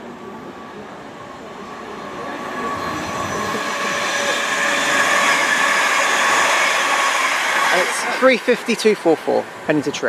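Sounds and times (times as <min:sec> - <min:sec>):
electric train approaching: 0:00.0 - 0:10.0
faint steady whining tones: 0:00.0 - 0:10.0.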